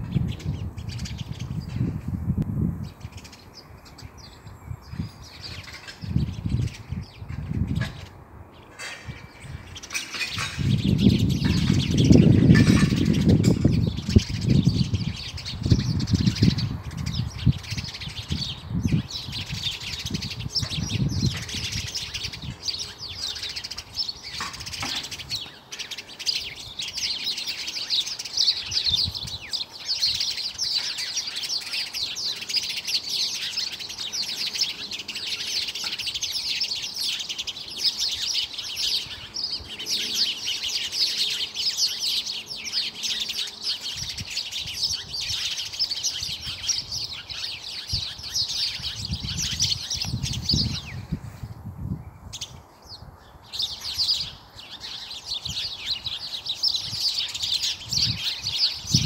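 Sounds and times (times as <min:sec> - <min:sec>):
small birds chirping chorus: 0:00.0 - 0:59.0.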